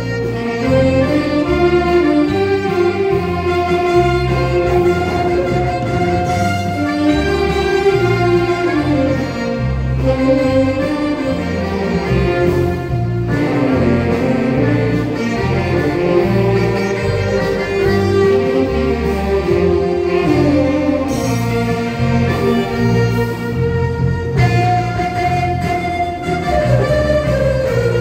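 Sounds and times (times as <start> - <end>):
melody of long held notes: 0.0 - 28.0
repeating bass line: 0.0 - 28.0.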